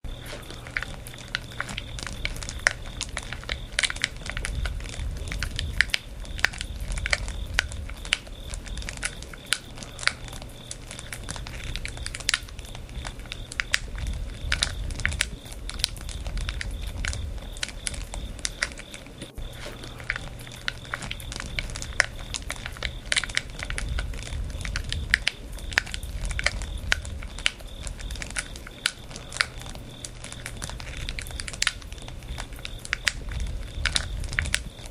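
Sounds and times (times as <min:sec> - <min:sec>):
campfire crackling: 0:00.0 - 0:34.9
fire popping and snapping: 0:00.0 - 0:34.9
low rumble of flames: 0:00.0 - 0:34.9.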